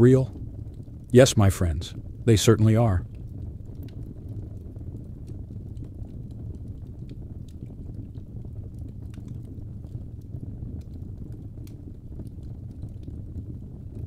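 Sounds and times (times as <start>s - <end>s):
fire popping and snapping: 0.0s - 14.0s
low rumble of flames: 0.0s - 14.0s.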